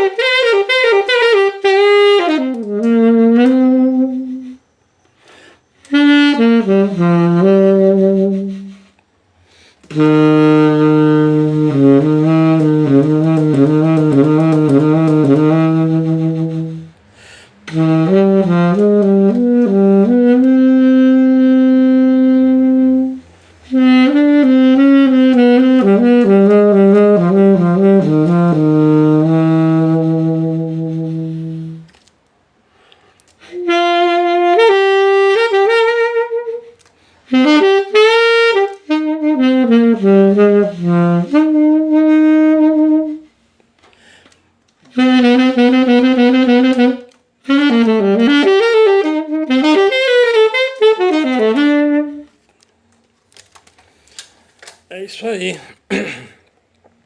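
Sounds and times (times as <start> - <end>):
reed wind instrument playing: 0.0 - 32.1, 33.4 - 43.5, 44.8 - 52.5.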